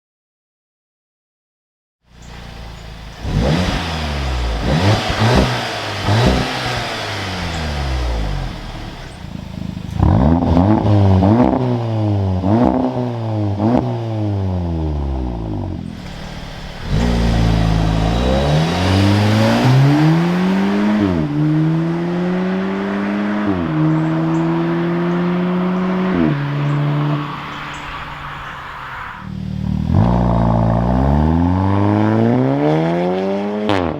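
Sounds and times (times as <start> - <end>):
car engine revving and accelerating: 2.2 - 33.9.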